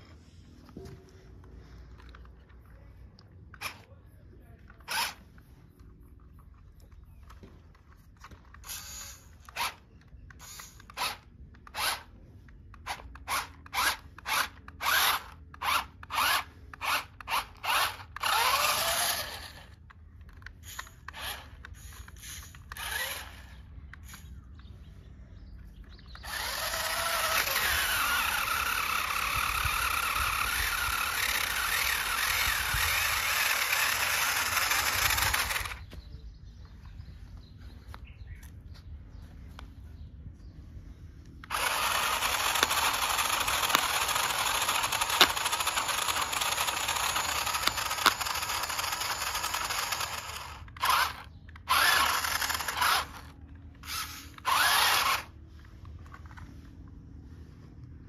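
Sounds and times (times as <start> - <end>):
electric motor and gearbox whirring: 0.0 - 58.0.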